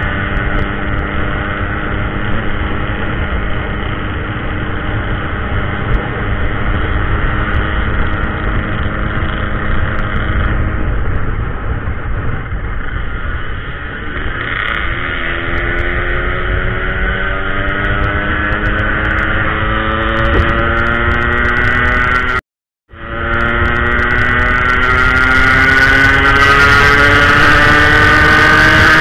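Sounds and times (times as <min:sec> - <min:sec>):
motorcycle engine running: 0:00.0 - 0:29.0
wind rumble on microphone: 0:00.0 - 0:29.0.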